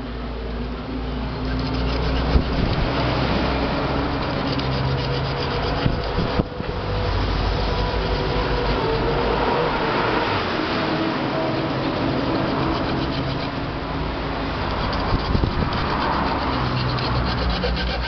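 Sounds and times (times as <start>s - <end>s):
steel wool scrubbing metal: 1.0s - 18.0s.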